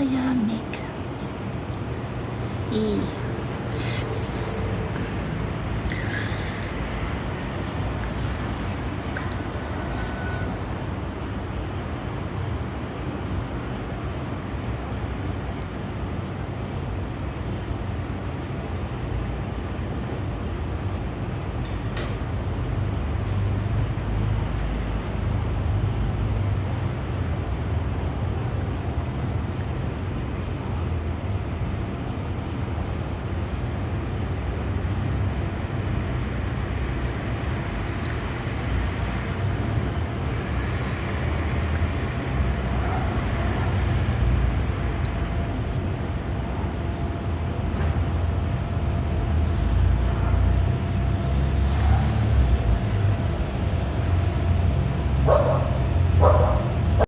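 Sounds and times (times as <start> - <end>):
low rumble of city traffic: 0.0 - 57.0.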